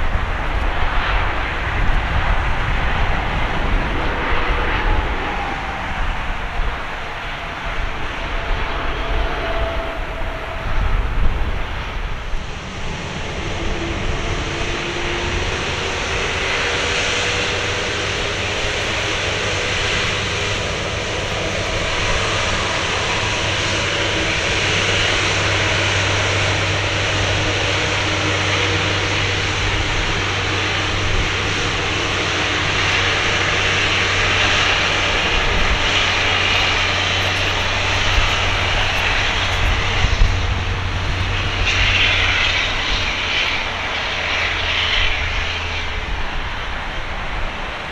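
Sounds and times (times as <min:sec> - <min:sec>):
jet engine rumble and hiss: 0:00.0 - 0:47.9.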